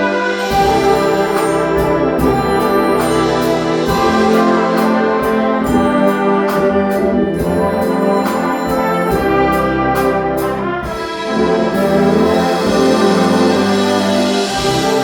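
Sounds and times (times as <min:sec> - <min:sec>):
concert band playing: 0:00.0 - 0:15.0
cymbal strokes: 0:00.4 - 0:15.0.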